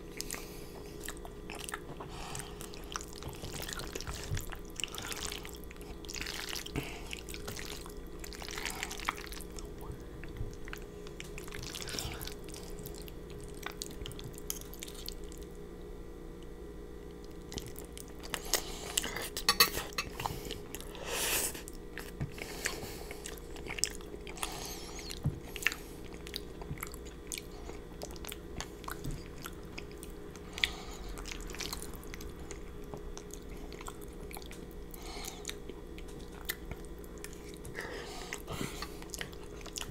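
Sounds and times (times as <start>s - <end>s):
wet chewing and slurping noodles: 0.0s - 15.6s, 17.2s - 39.9s.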